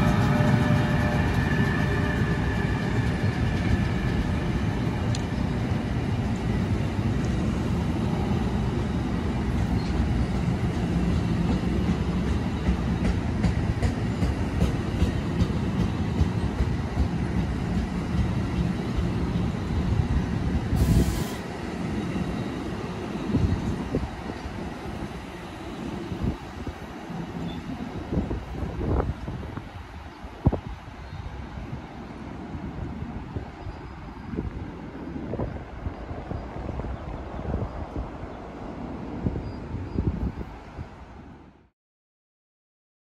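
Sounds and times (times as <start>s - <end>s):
train wheels rumbling on rails: 0.0s - 41.3s.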